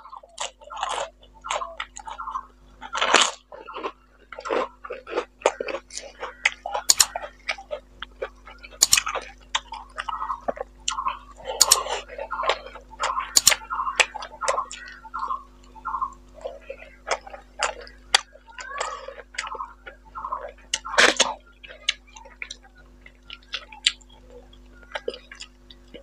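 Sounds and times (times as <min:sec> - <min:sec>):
chewing with wet lip smacks: 0:00.0 - 0:26.0.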